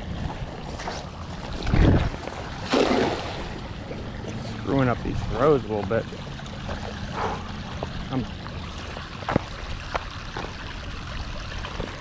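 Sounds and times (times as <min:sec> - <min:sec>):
river water splashing and trickling: 0:00.0 - 0:12.0
sharp little splashes and clicks: 0:00.7 - 0:10.9.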